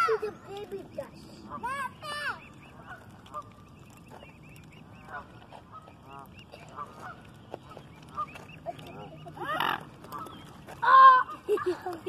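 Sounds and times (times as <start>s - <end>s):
cygnets peeping: 0.0s - 12.0s.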